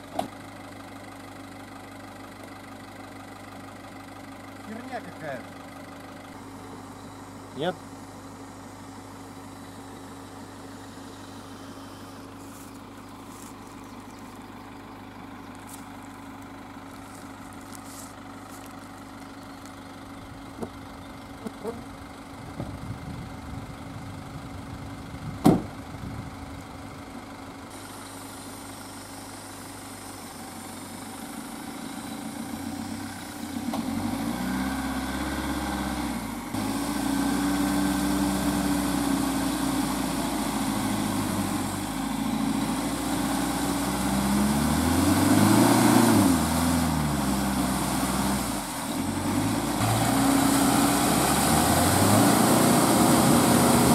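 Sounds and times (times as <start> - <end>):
van engine idling and revving: 0.0 - 53.9.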